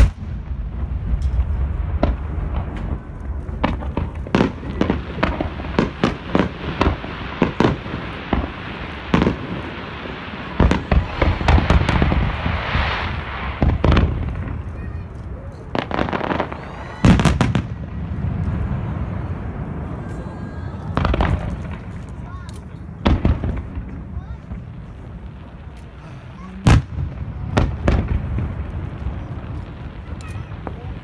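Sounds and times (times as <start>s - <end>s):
fireworks hissing: 0.0s - 31.0s.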